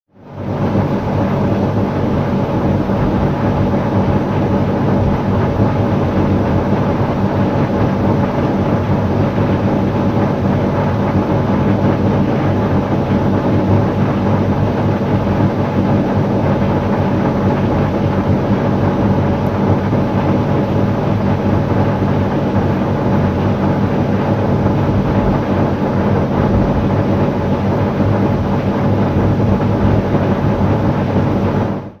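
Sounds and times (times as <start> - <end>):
air conditioner humming: 0.4 - 31.9.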